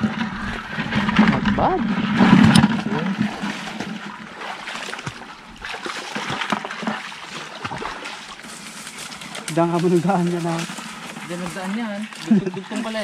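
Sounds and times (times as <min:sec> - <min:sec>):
feet wading through shallow water: 0:00.0 - 0:13.0.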